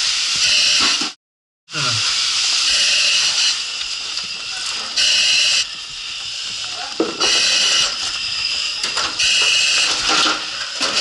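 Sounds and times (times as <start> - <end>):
breathing apparatus hissing: 1.7 - 10.8.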